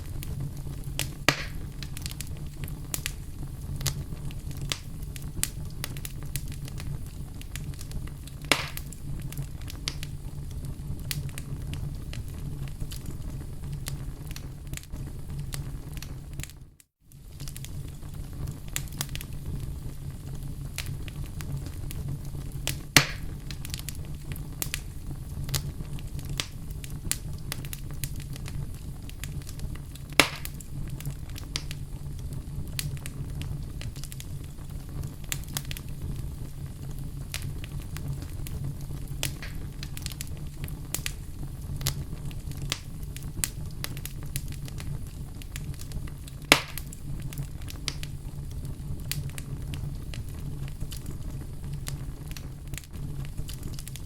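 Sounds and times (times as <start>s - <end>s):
fire crackling in a fireplace: 0.0s - 54.0s
loud fire pops: 0.0s - 54.0s.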